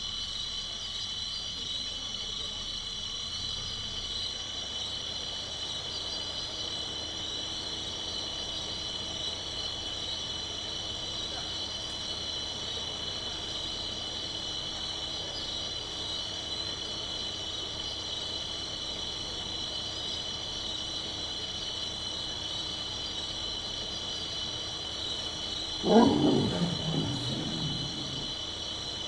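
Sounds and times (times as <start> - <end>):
insects high-pitched chorus: 0.0 - 28.8.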